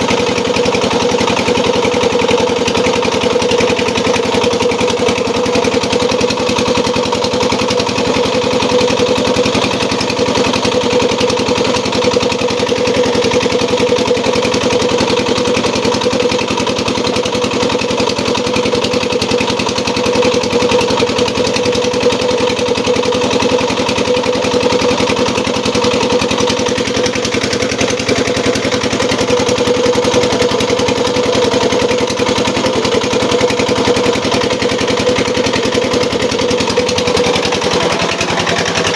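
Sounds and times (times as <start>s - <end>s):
machine engine humming: 0.0s - 38.9s.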